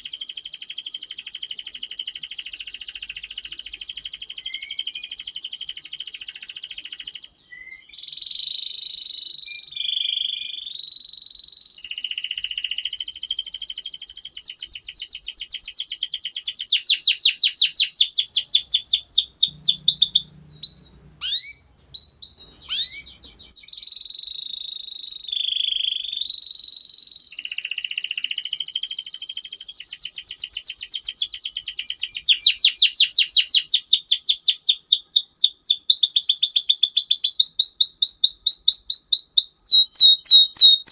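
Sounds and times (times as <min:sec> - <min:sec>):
canary singing trills: 0:00.0 - 0:40.9
short bird chirps: 0:03.1 - 0:40.9.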